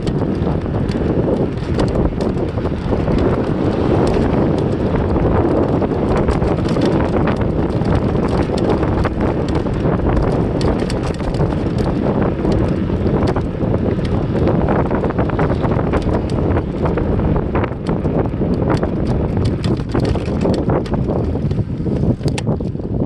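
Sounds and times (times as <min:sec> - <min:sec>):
small clicks and rattles: 0:00.0 - 0:22.9
wind buffeting microphone: 0:00.0 - 0:23.0.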